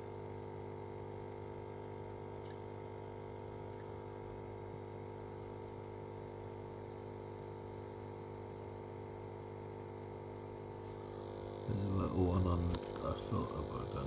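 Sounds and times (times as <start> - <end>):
aquarium filter pump hum: 0.0 - 14.0.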